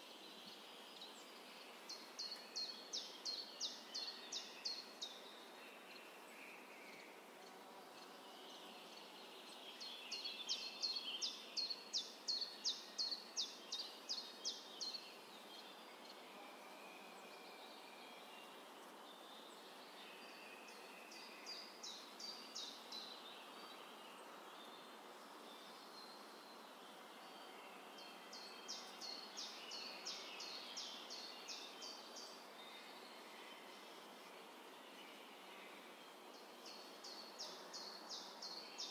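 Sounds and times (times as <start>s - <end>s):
faint outdoor hiss: 0.0s - 38.9s
songbird singing: 0.0s - 38.9s.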